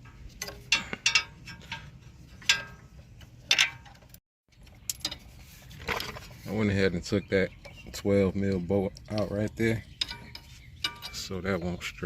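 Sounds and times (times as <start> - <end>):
metal tools clinking on steel: 0.0 - 6.2, 7.6 - 12.0.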